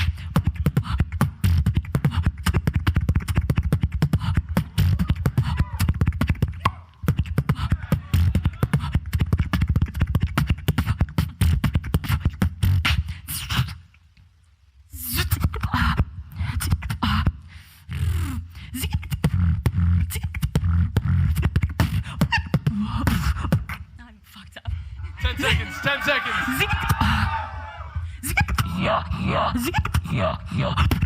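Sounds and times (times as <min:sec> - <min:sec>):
person beatboxing: 0:00.0 - 0:13.8, 0:15.2 - 0:24.0, 0:28.2 - 0:31.0.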